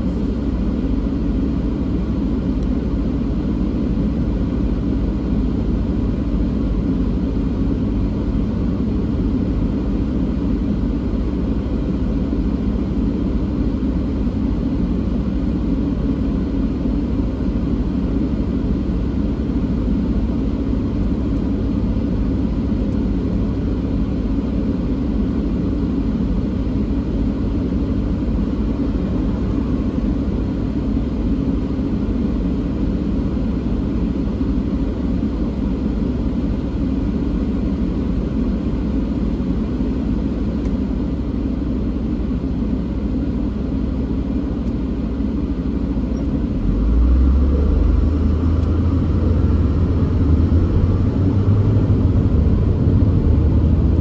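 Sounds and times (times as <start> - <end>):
car engine idling inside cabin: 0.0 - 54.0.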